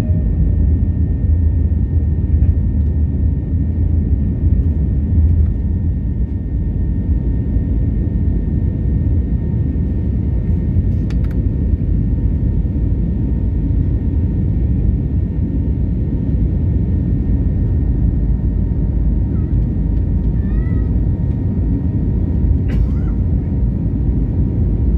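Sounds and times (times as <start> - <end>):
airplane engines rumbling: 0.0 - 24.9.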